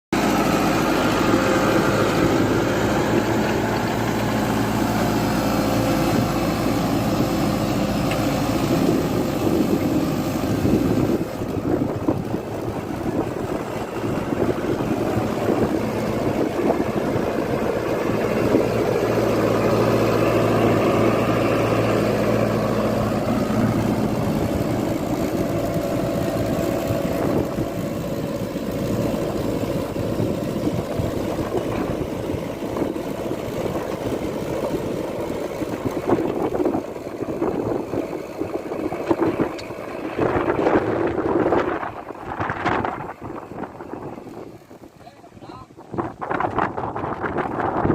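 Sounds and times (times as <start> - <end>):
tractor diesel engine running: 0.1 - 47.9.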